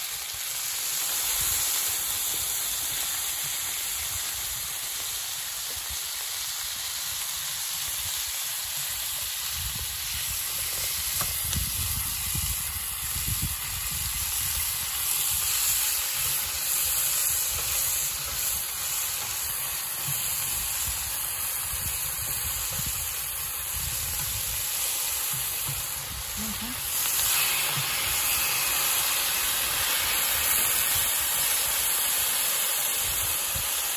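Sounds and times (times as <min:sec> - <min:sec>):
meat sizzling on griddle: 0:00.0 - 0:33.9.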